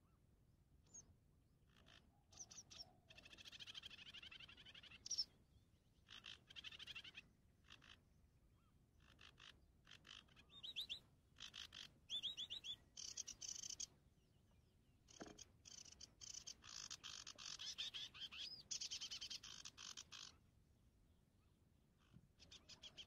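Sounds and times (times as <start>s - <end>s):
small birds chirping: 0.8s - 1.1s, 1.7s - 20.5s, 21.4s - 23.0s.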